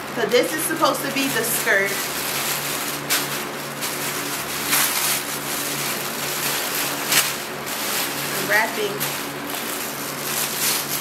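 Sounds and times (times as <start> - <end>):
steady low hum: 0.0 - 11.0
tissue paper rustling: 0.3 - 11.0.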